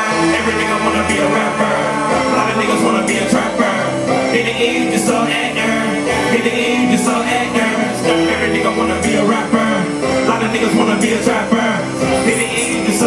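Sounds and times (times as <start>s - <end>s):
backing track with bass line: 0.0s - 13.0s
man singing into a microphone: 0.0s - 13.0s.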